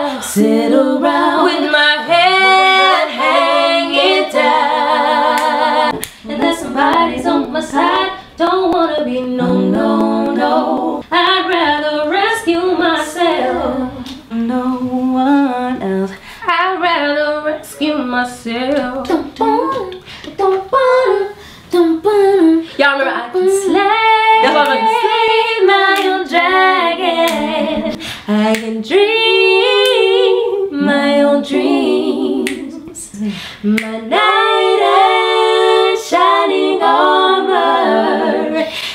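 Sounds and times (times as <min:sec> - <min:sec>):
women singing a cappella: 0:00.0 - 0:38.9.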